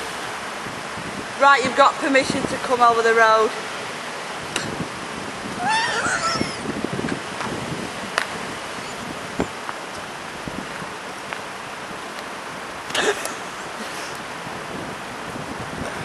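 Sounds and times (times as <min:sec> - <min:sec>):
street background hiss: 0:00.0 - 0:16.0.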